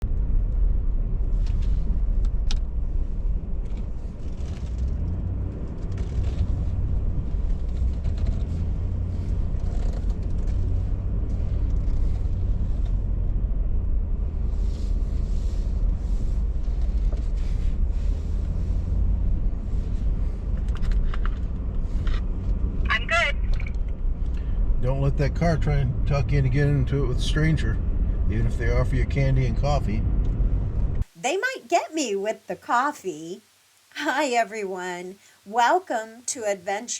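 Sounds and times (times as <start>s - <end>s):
vehicle engine and road rumble: 0.0s - 36.8s.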